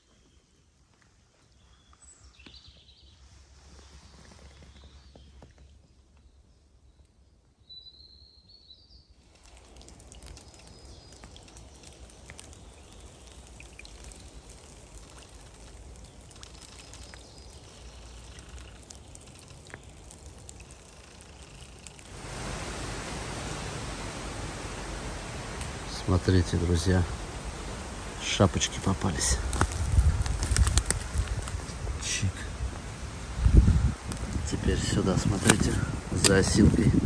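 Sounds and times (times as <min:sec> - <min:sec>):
light rain on puddle and leaves: 0:00.0 - 0:37.0.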